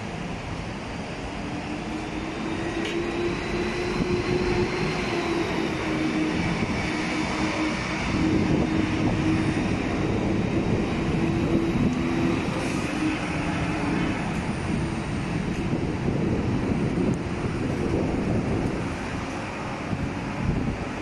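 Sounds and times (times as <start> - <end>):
electric train rumbling and humming: 0.0 - 21.0.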